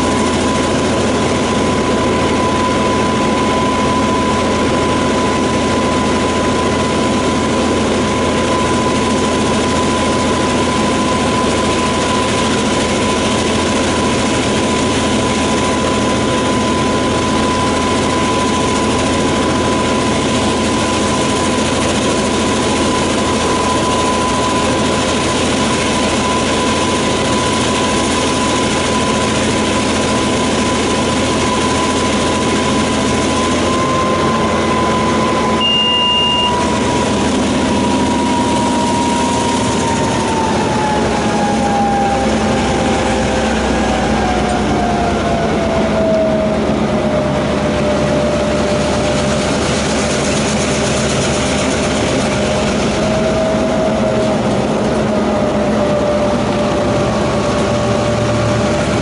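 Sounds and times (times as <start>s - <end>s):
locomotive engine drone: 0.0s - 59.0s
steady high whine: 0.0s - 59.0s.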